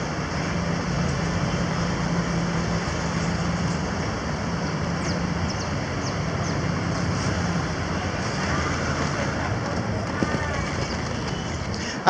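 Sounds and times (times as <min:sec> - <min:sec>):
idling car and truck engines: 0:00.0 - 0:12.0
roadway din: 0:00.0 - 0:12.0.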